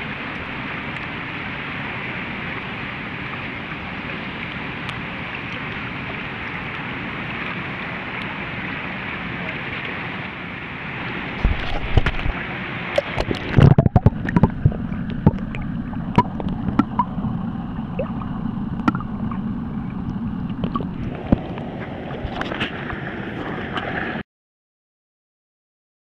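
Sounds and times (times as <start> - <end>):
muffled underwater rush: 0.0 - 24.2
water sloshing and splashing: 0.0 - 24.2.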